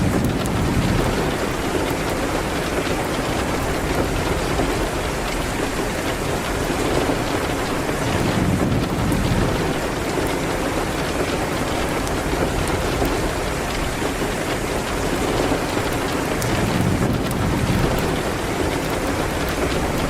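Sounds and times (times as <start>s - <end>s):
heavy rain against a window: 0.0s - 20.0s
wood fire crackling: 0.0s - 20.0s.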